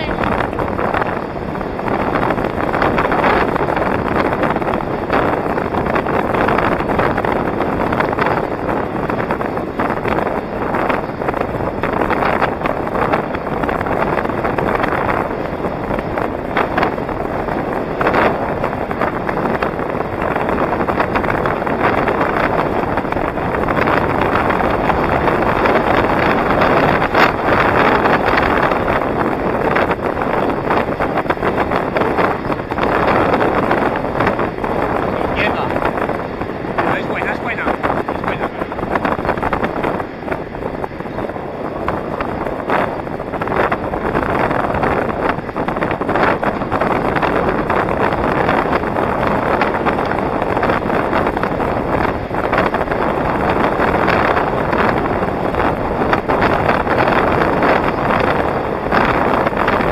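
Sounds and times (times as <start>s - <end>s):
rolling road noise: 0.0s - 59.9s
wind rushing over microphone: 0.0s - 59.9s.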